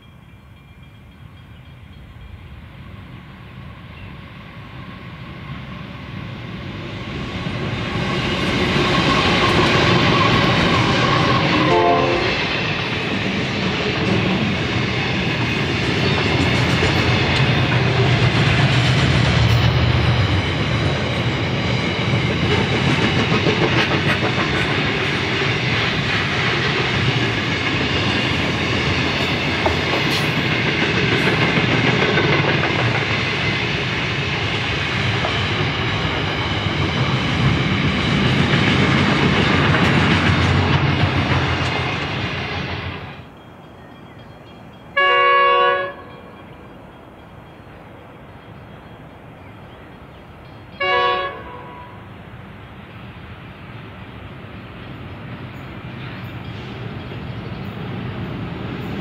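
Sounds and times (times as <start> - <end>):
train wheels running on rails: 0.0 - 59.0.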